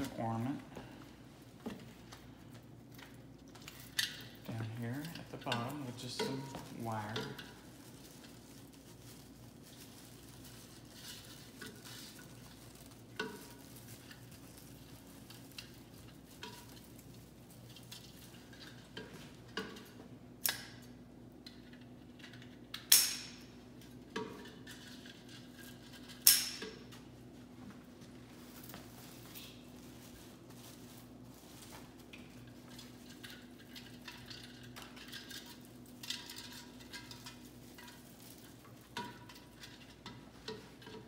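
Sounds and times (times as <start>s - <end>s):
rustling of ribbon and garland: 0.0s - 20.2s, 23.9s - 41.0s.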